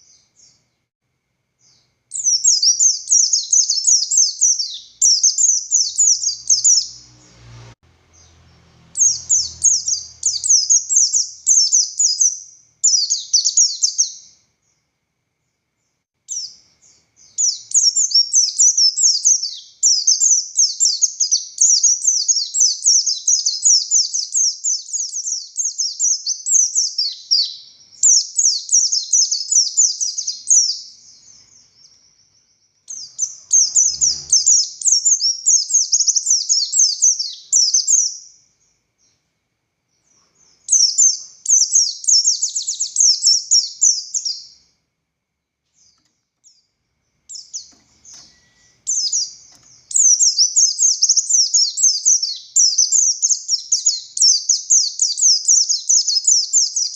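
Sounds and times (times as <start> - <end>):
bird chattering song: 1.6 - 7.4, 8.0 - 14.8, 16.3 - 39.2, 40.0 - 44.7, 47.3 - 56.9.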